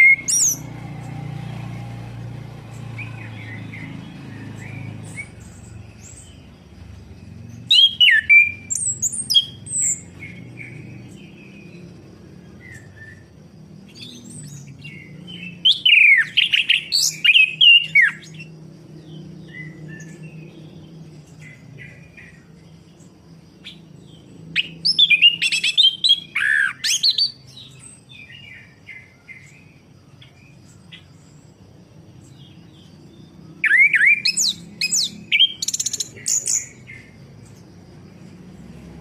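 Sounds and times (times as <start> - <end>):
soft bird chirps: 0.0 - 39.0
thrush singing whistled notes: 0.0 - 39.0.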